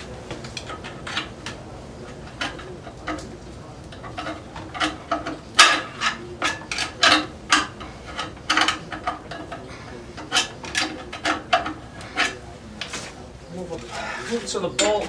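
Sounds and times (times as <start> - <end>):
metallic clicks and scrapes: 0.4 - 13.2.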